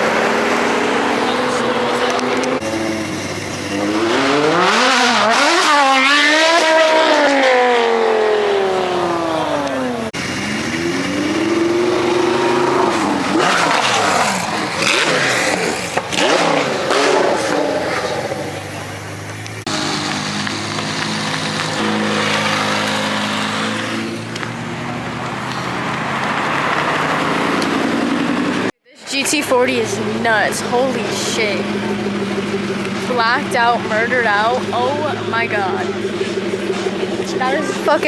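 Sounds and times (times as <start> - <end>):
sports cars revving and passing: 0.0 - 38.0.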